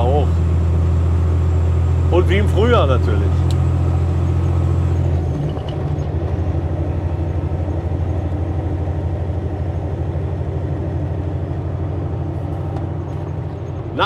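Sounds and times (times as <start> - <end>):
truck diesel engine droning: 0.0 - 14.0.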